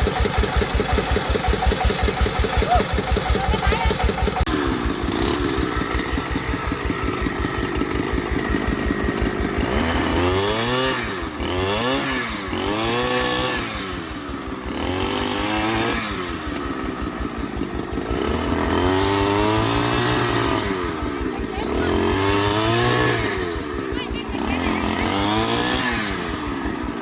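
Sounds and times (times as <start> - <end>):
engine revving: 0.0 - 27.0.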